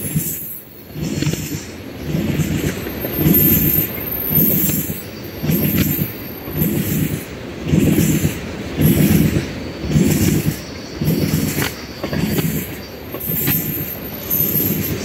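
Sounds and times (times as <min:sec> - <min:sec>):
train wheels rumbling: 0:00.0 - 0:15.0
wheel flange squeal: 0:00.0 - 0:15.0.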